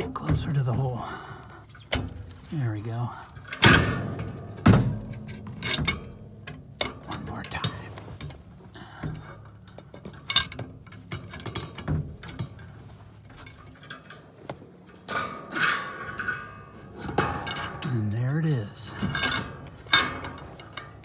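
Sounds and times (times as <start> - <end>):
metal clinks and scrapes: 1.6 - 21.0.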